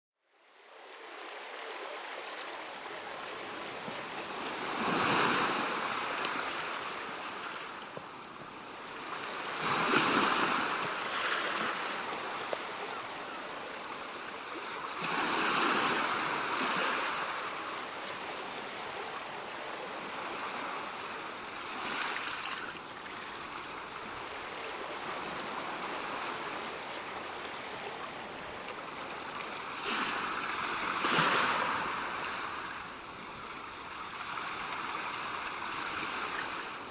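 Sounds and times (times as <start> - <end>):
ocean waves crashing: 0.6 - 36.9.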